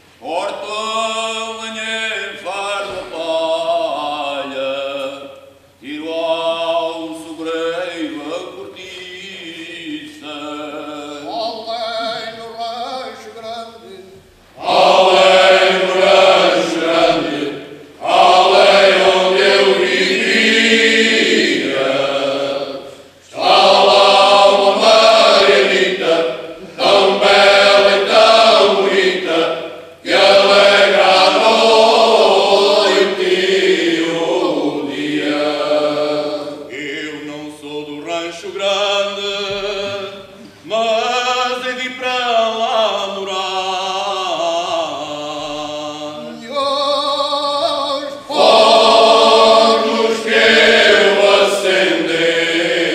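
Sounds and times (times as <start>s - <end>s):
male choir singing unaccompanied: 0.2s - 52.9s.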